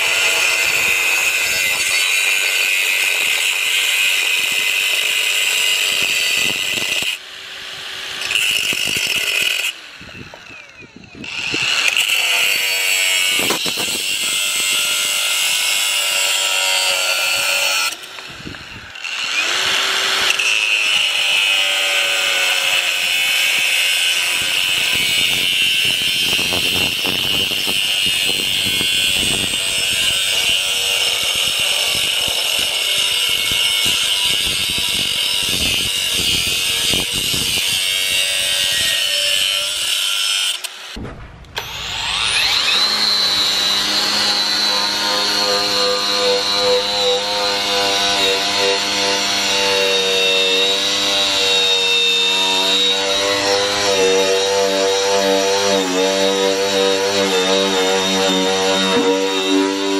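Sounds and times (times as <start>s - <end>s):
angle grinder whining: 0.0s - 41.0s, 41.6s - 59.9s.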